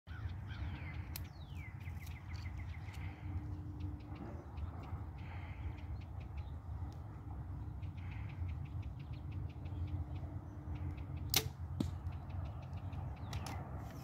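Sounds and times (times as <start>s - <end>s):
bird singing: 0.1s - 14.0s.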